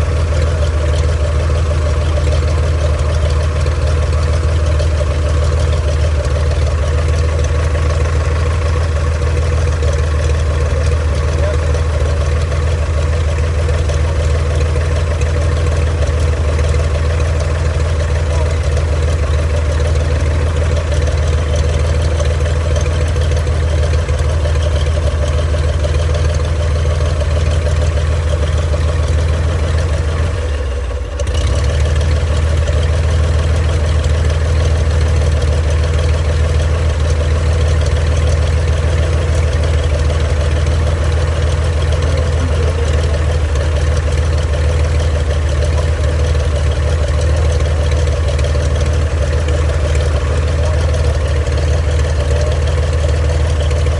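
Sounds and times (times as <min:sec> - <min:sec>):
propeller plane engine idling: 0:00.0 - 0:53.9.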